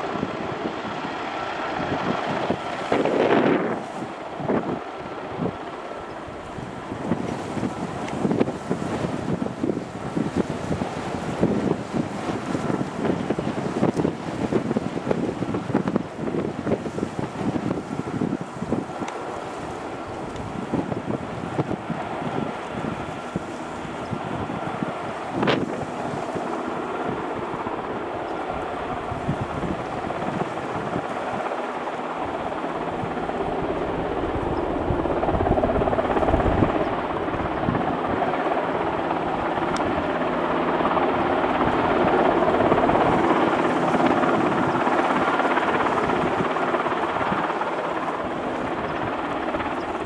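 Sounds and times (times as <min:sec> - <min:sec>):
helicopter hovering: 0:00.0 - 0:50.0.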